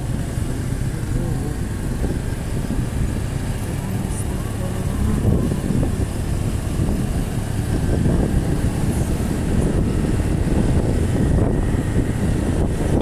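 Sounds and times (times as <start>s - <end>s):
motorcycle engine rumble: 0.0s - 13.0s
road noise: 0.0s - 13.0s
wind buffeting microphone: 0.0s - 13.0s.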